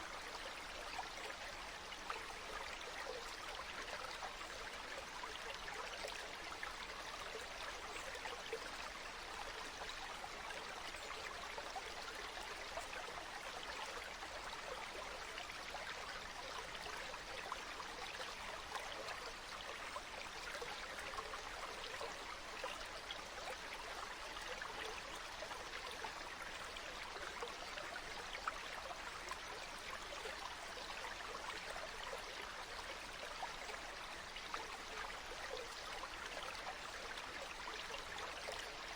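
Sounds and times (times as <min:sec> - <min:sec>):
water flowing in a stream: 0:00.0 - 0:38.9.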